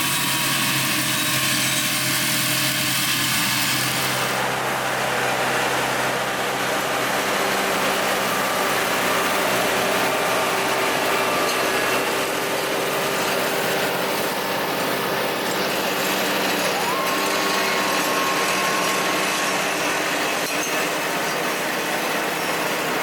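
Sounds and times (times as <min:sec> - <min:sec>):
tractor engine hum: 0:00.0 - 0:23.0.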